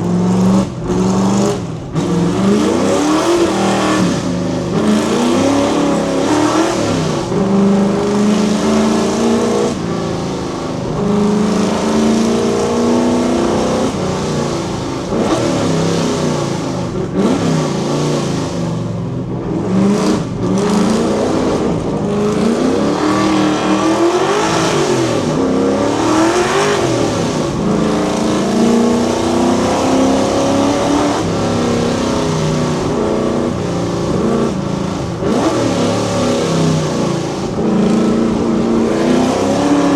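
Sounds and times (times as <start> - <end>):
car exhaust revving under acceleration: 0.0 - 39.9.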